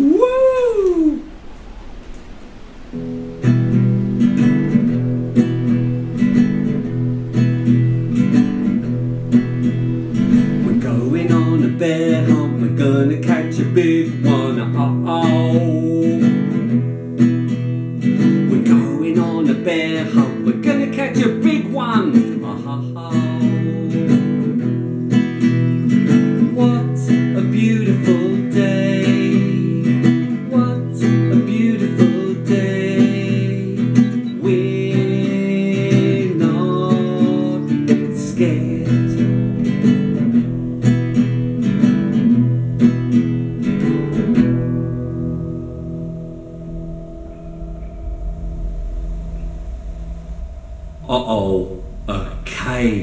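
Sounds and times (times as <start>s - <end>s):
classical guitar strummed and picked: 2.1s - 51.0s.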